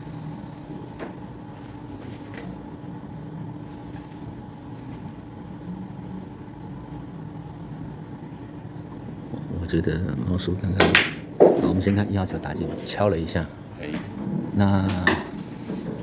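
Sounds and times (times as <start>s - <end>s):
room hum: 0.0s - 16.0s.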